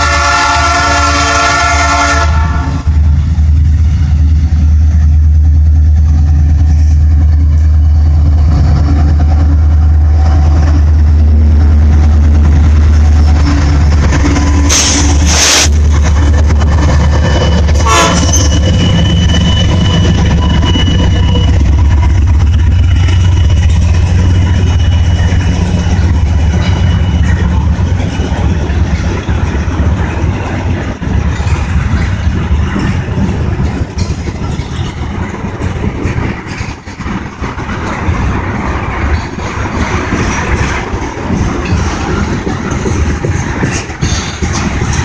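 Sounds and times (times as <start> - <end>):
diesel locomotive engines rumbling: 0.0 - 45.0
train cars clattering: 0.0 - 45.0
train wheels on rails: 0.0 - 45.0.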